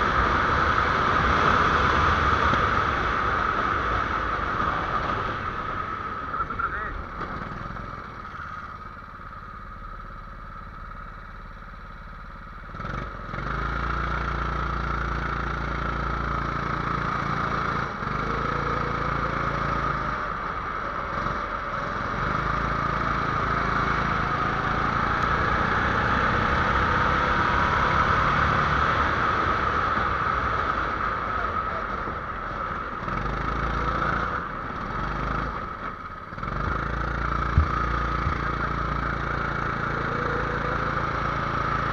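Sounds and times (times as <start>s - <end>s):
small engine starting and idling: 0.0s - 27.0s, 29.1s - 41.9s.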